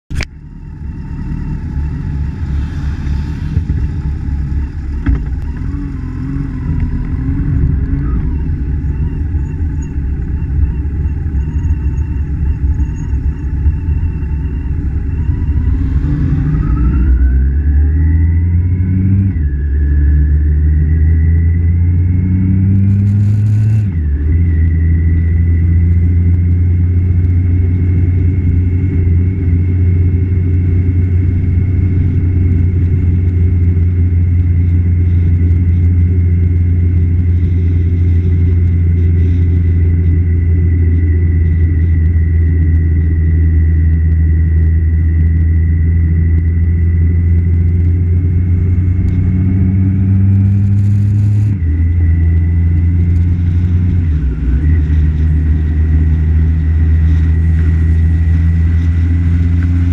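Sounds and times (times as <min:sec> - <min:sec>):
motorcycle engine: 0:00.1 - 0:59.9
wind rumble on microphone: 0:00.1 - 0:59.9.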